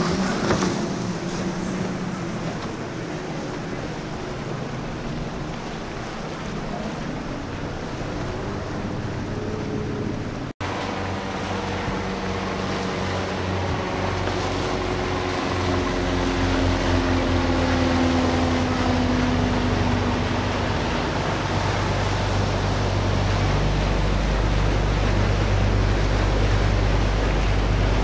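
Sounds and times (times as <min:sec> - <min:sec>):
boat diesel engines running: 0:00.0 - 0:28.0
wake and waves washing: 0:00.0 - 0:28.0.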